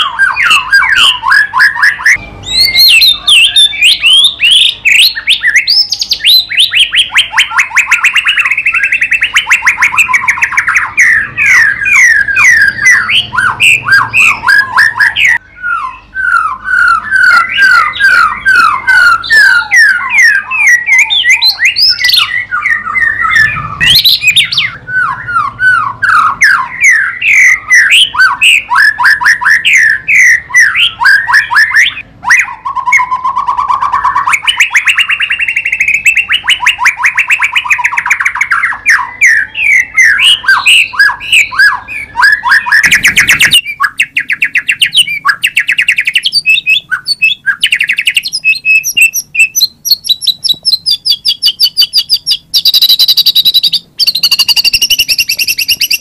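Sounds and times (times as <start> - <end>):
bird singing whistled notes: 0.0 - 56.0
buzzy bird trill: 0.0 - 56.0.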